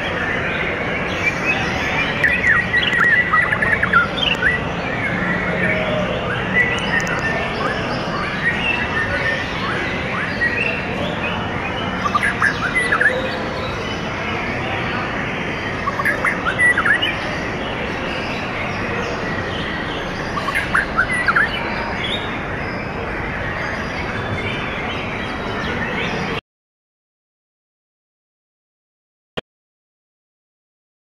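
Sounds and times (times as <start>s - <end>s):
songbird chirping: 0.0s - 26.4s.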